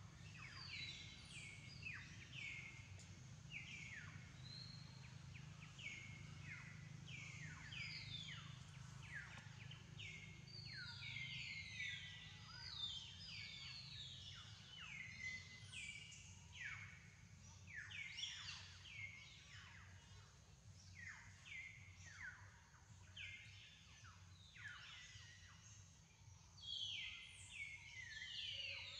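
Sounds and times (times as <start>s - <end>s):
low steady hum: 0.0s - 26.5s.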